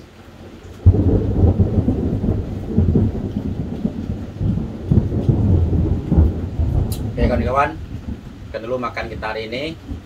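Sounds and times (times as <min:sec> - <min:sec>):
thunder rumbling: 0:00.7 - 0:10.0
thunder clap: 0:00.8 - 0:10.0.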